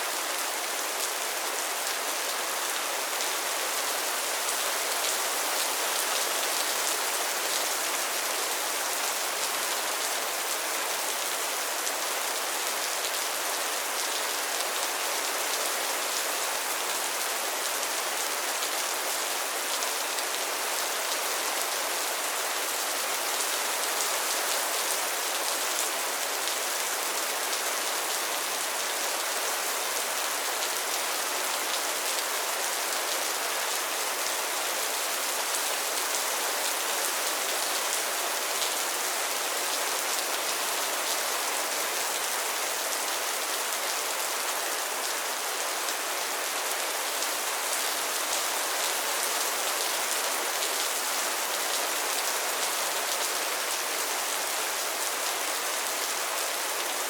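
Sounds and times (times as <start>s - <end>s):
rain falling on pond water: 0.0s - 57.0s.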